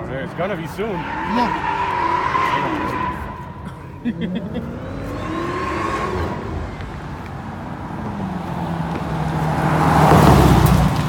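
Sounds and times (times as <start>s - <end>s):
car engine running hard: 0.0s - 11.0s.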